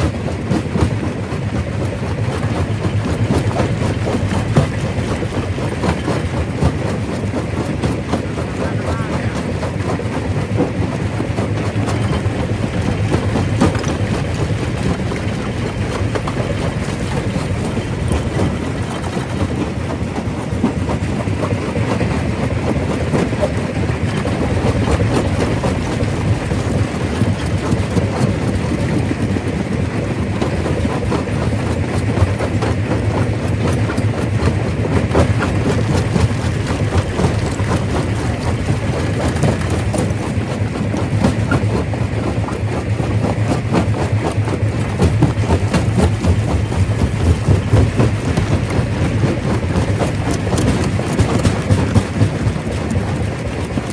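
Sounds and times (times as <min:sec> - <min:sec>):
rock crusher rumbling: 0:00.0 - 0:53.9.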